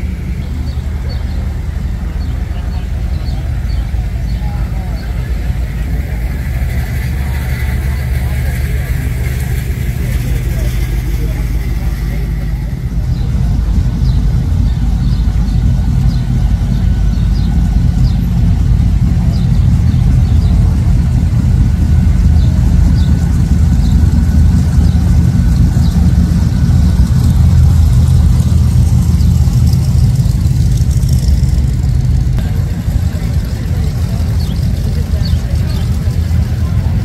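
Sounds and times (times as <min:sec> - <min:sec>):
car engines droning: 0:00.0 - 0:37.0.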